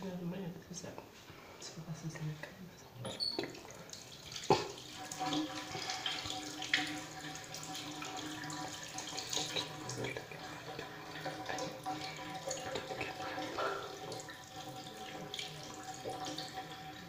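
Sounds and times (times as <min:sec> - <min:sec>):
tap water running into sink: 0:03.1 - 0:17.0.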